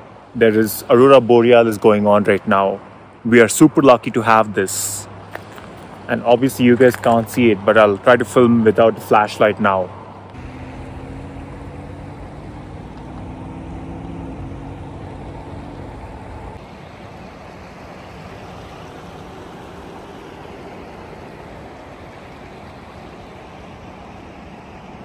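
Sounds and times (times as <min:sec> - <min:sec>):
vehicle noise with low hum: 0:00.0 - 0:25.0.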